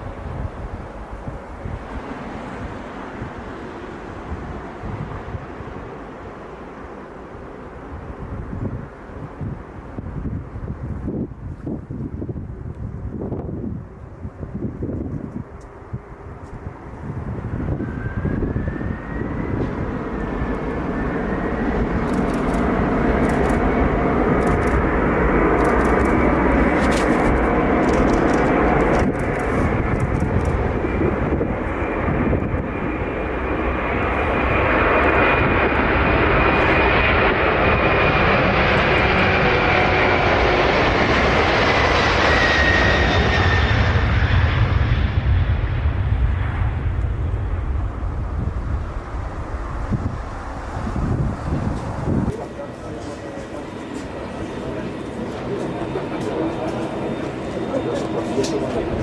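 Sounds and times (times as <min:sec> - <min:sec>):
jet airliner engines passing: 0:00.0 - 0:59.0.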